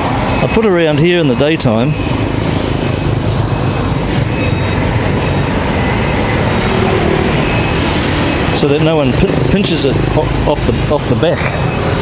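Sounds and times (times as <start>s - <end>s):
street traffic noise: 0.0s - 12.0s
vehicle engines running: 0.0s - 12.0s.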